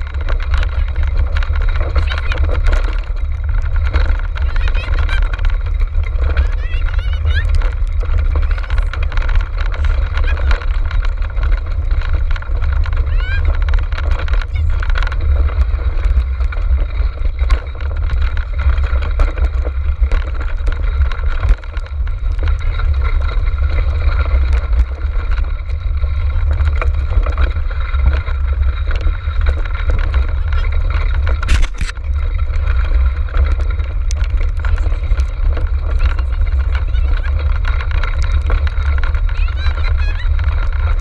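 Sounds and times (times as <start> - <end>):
cart rattling on rough trail: 0.0 - 41.0
wind rumble on microphone: 0.0 - 41.0.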